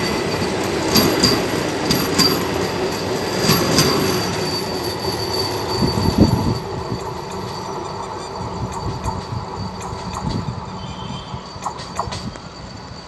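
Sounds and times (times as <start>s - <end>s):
train passing at speed: 0.0s - 13.0s
wheels clacking over rail joints: 0.0s - 13.0s.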